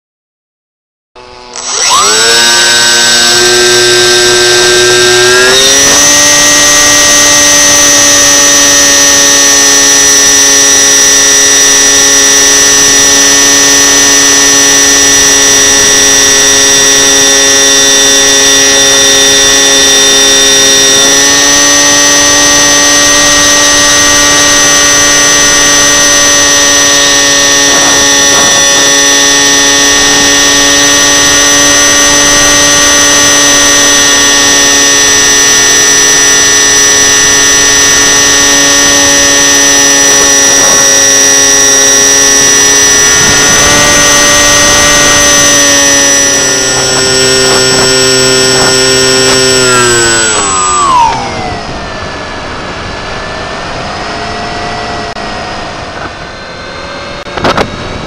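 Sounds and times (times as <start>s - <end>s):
model airplane motor whining: 1.2s - 58.0s.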